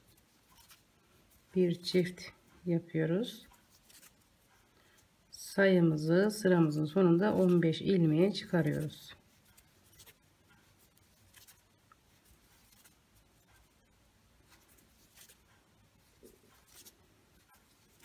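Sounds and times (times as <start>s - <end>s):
crochet hook ticks and rustles: 0.0s - 18.0s.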